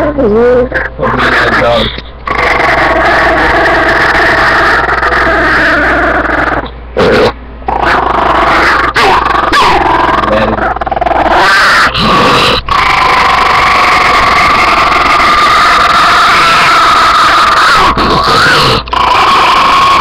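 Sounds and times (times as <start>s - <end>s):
small dog growling and snarling: 0.6s - 20.0s.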